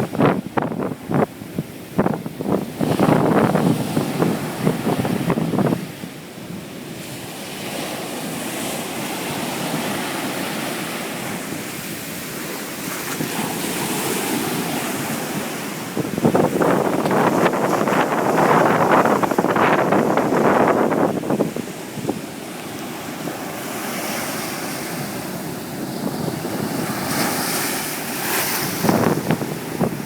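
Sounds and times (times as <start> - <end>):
wind buffeting microphone: 0.0 - 7.8, 8.4 - 30.0
ocean surf washing onto beach: 0.0 - 30.0.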